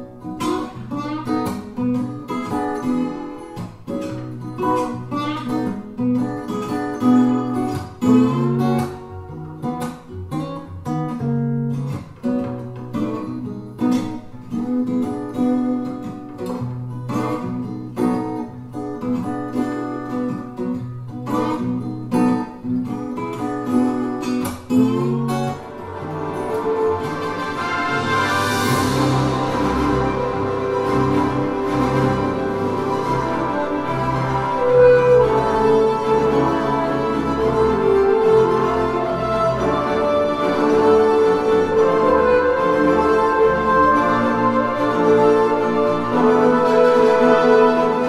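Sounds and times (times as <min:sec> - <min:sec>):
acoustic guitar blues: 0:00.0 - 0:48.0.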